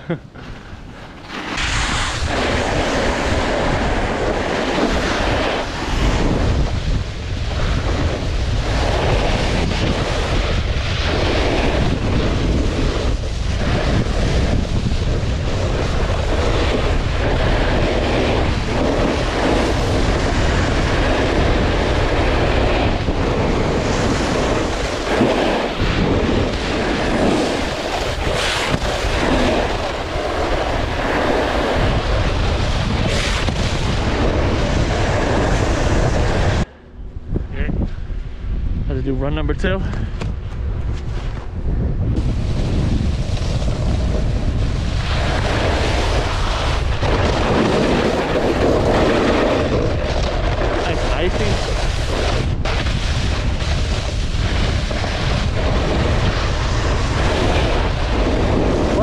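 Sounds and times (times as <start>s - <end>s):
wind buffeting microphone: 0.0s - 59.0s
snowboard scraping icy snow: 0.4s - 36.7s, 40.8s - 59.0s.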